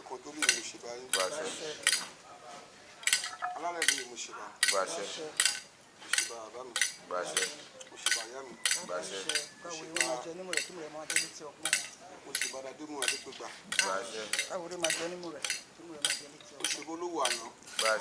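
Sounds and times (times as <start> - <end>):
faint singing voices: 0.0 - 18.0.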